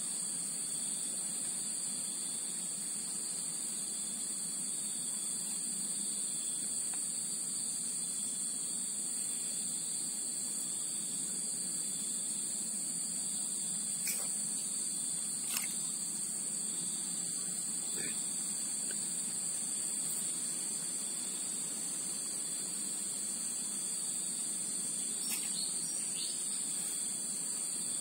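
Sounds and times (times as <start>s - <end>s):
insects chirping chorus: 0.0s - 28.0s.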